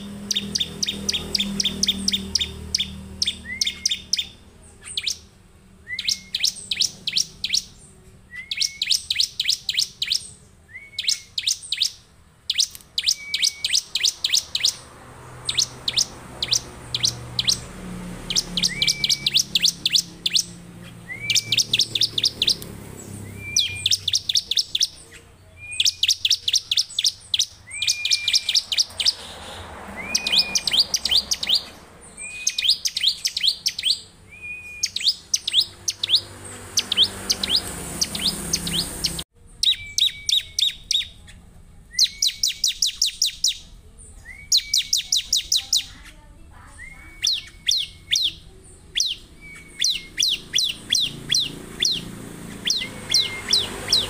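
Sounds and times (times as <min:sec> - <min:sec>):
bird singing with rattling notes: 0:00.0 - 0:54.0.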